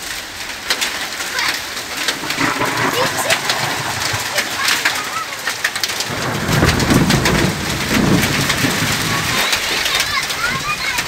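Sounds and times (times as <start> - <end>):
hail and rain pelting ground: 0.0 - 11.0
thunder rumbling: 1.5 - 11.0.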